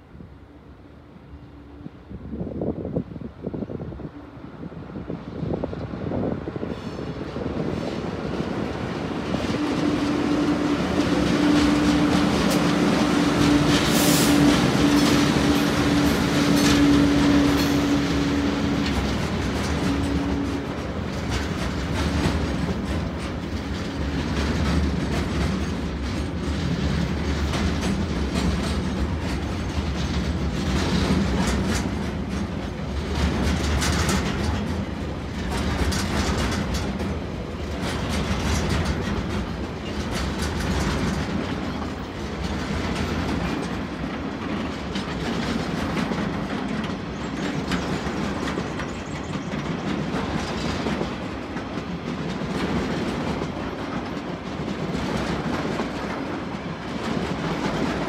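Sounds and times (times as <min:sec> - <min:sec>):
train wheels rumbling and clacking: 0:02.5 - 0:58.0.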